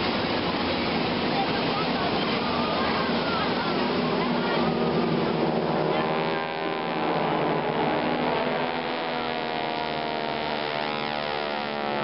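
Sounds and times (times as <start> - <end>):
aircraft flying past: 0.0 - 12.0.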